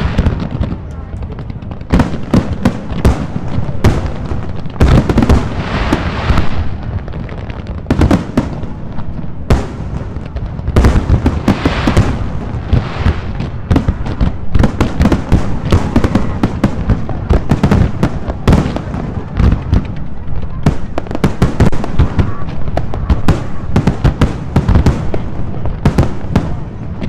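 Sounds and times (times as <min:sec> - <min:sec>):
fireworks booming and banging: 0:00.0 - 0:27.0
fireworks crackle: 0:00.0 - 0:27.0.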